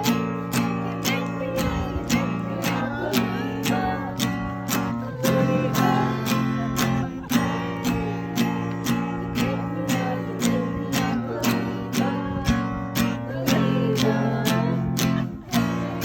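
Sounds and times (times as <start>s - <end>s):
acoustic guitar strumming: 0.0s - 16.0s
people singing: 0.0s - 16.0s.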